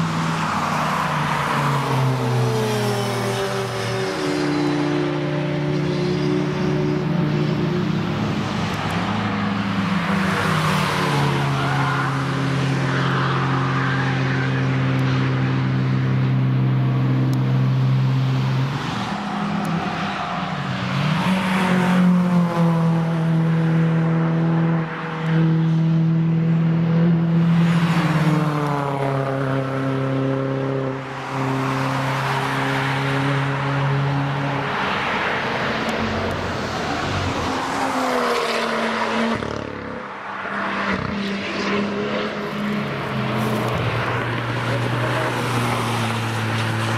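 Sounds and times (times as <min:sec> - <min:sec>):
cars passing at speed: 0:00.0 - 0:46.9
distant engines droning: 0:00.0 - 0:46.9.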